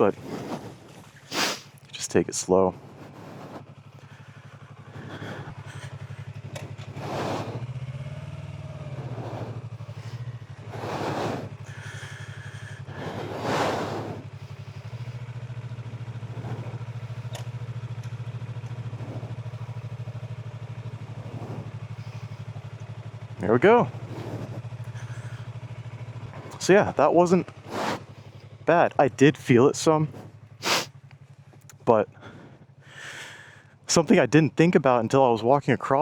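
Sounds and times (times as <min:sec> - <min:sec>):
motorcycle engine at low revs: 0:00.0 - 0:36.0.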